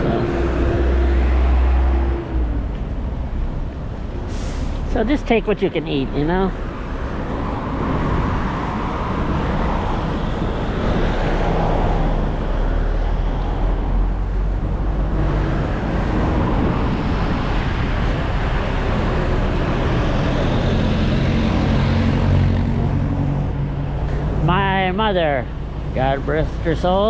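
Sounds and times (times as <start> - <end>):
vehicles passing close by: 0.0 - 27.0.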